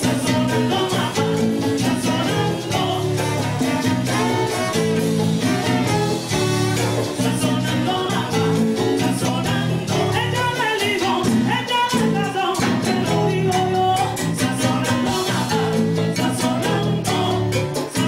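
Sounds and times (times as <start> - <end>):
salsa band music: 0.0 - 18.0.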